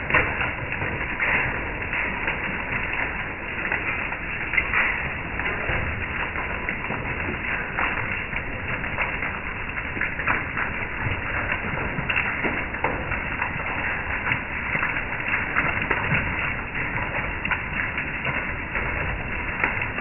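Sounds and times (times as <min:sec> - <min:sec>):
hail pelting deck and metal table: 0:00.0 - 0:20.0.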